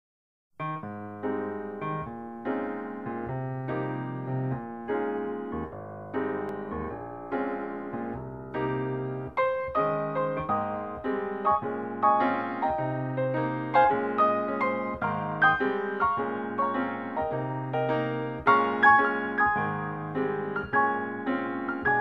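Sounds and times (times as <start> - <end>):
gentle piano music: 0.6 - 22.0.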